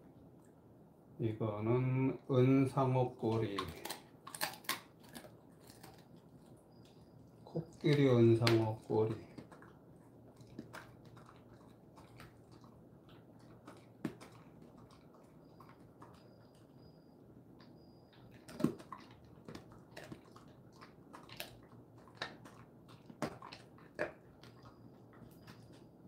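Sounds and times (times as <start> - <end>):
dog chewing: 3.1 - 26.0.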